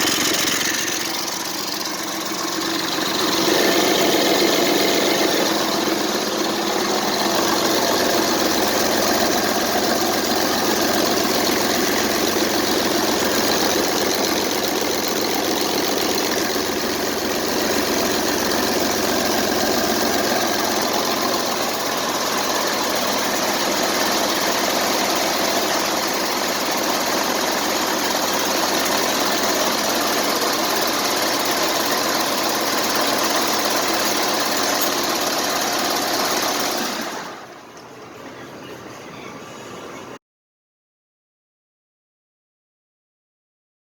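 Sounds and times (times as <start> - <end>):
diesel engine running: 0.0 - 40.2.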